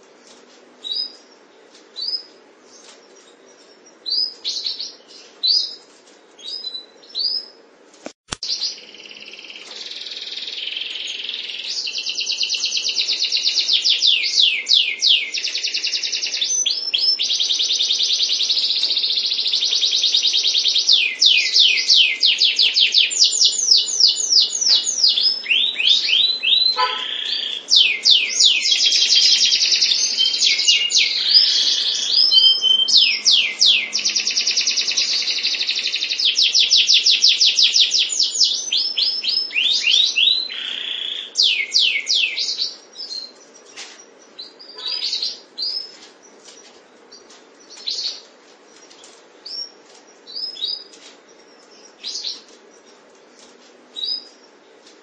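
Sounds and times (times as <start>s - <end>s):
canary singing trills: 0.0s - 7.7s, 8.4s - 55.0s.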